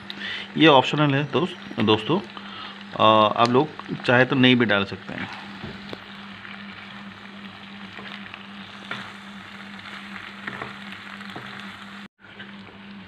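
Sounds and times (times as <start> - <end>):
steady low hum: 0.0 - 13.0
food sizzling in a pan: 1.2 - 12.9.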